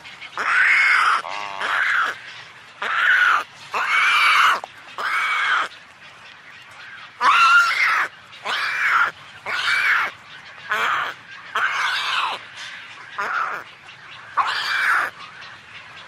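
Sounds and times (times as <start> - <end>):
pelican calling: 0.3 - 5.8, 6.8 - 16.0.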